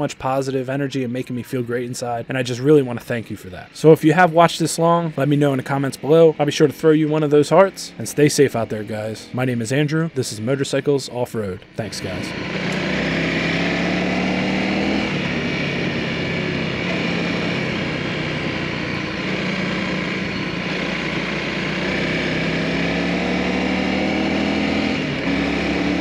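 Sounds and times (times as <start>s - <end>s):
motorcycle engine accelerating: 2.7s - 10.8s, 11.6s - 26.0s.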